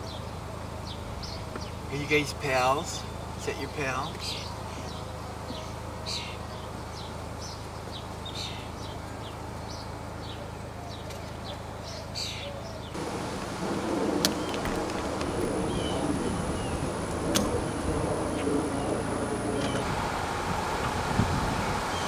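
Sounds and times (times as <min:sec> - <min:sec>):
small birds chirping: 0:00.0 - 0:20.2
outdoor noise: 0:00.0 - 0:22.0
vehicle idling hum: 0:00.0 - 0:22.0.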